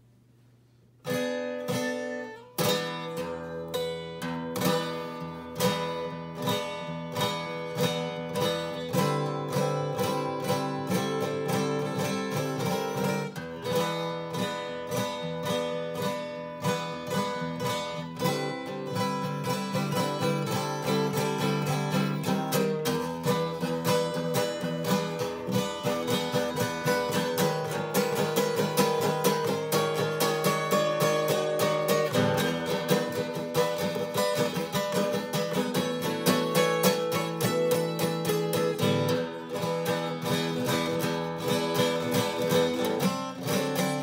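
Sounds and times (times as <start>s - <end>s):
fingerstyle acoustic guitar: 1.0s - 44.0s.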